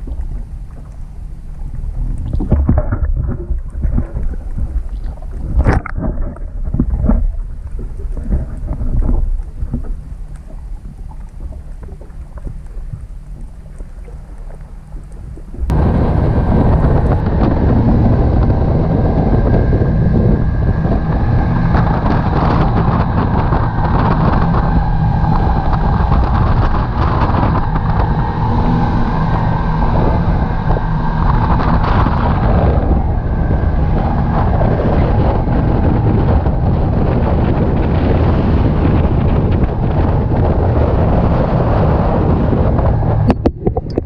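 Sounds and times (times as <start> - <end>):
boat wake rushing: 0.0 - 44.0
outboard motors running: 0.0 - 44.0
wind buffeting microphone: 0.0 - 44.0.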